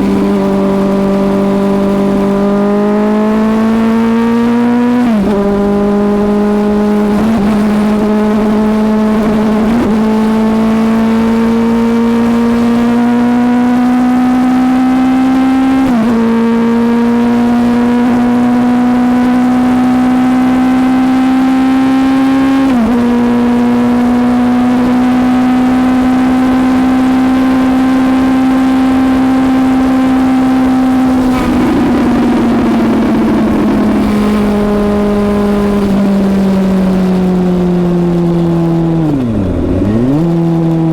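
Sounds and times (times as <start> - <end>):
motorcycle engine pulling hard: 0.0 - 40.9.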